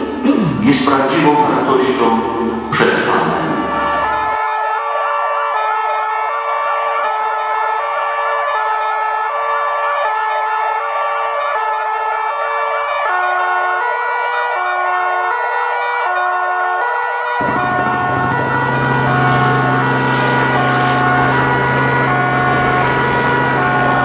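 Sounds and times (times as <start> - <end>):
two-tone ambulance siren: 1.4 - 24.0
wailing siren: 3.4 - 24.0
lower two-tone siren: 3.5 - 24.0.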